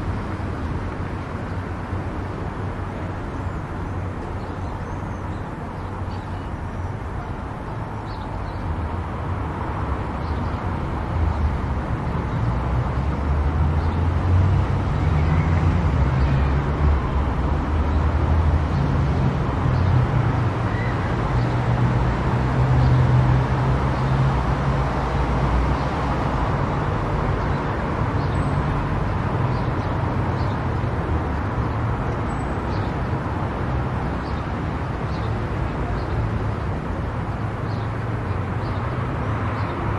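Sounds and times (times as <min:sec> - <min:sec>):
tyre and road noise: 0:00.0 - 0:39.9.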